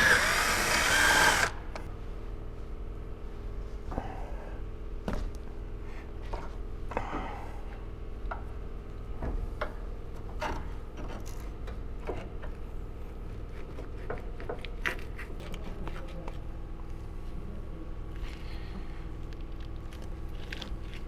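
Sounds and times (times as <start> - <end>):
steady workshop hum: 0.0 - 21.0.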